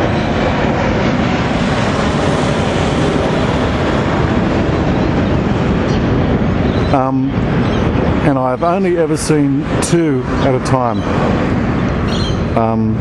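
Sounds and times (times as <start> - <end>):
airplane passing overhead: 0.0 - 13.0.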